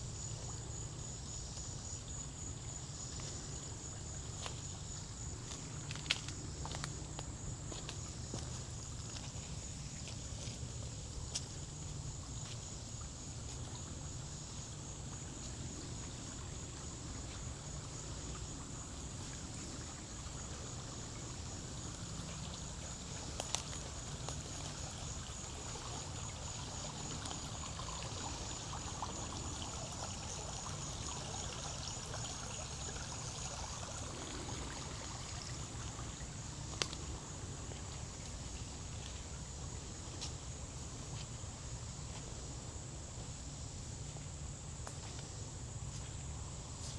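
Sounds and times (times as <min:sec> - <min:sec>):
high insect trill: 0:00.0 - 0:46.9
steady forest hiss: 0:00.0 - 0:46.9.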